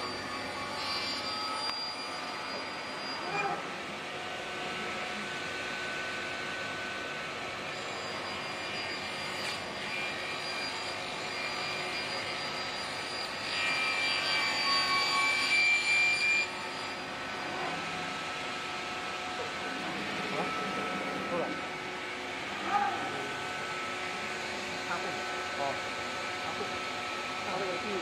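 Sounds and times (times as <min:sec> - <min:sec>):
circular saw machine whining hum: 0:00.0 - 0:28.0.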